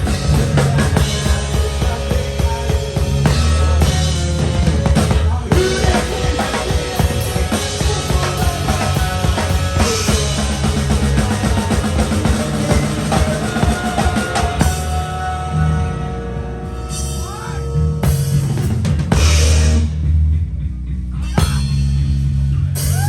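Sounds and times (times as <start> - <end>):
live rock band playing: 0.0 - 20.4, 21.1 - 23.0.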